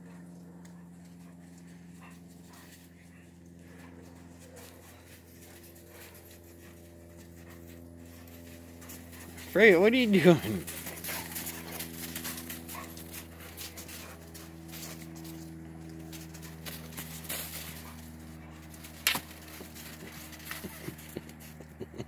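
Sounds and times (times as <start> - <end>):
low hum: 0.0 - 22.0
dogs scuffling in snow: 2.3 - 21.2.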